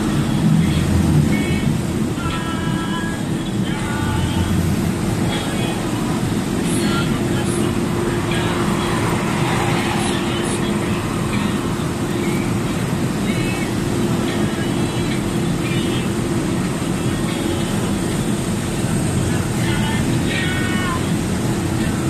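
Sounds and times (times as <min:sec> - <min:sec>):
truck engine and tyres droning: 0:00.0 - 0:22.0.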